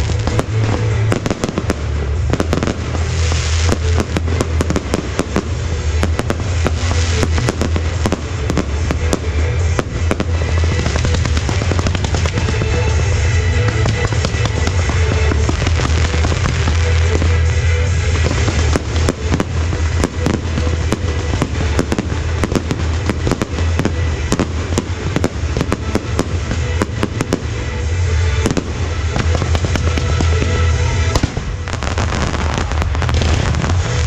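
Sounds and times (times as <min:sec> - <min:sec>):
fireworks cracking and banging: 0:00.0 - 0:34.0
music with steady bass: 0:00.0 - 0:34.0.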